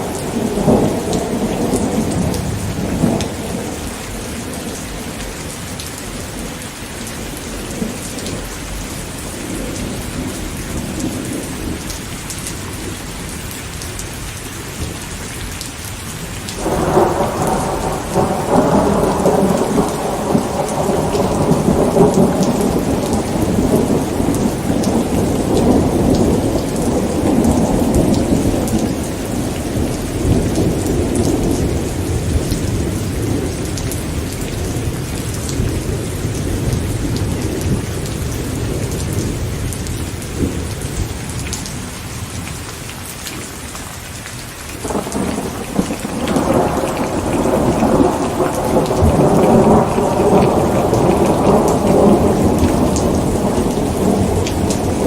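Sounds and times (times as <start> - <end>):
thunder rumbling: 0.0 - 11.9, 16.6 - 42.0, 44.8 - 55.0
steady rain falling: 0.0 - 55.0.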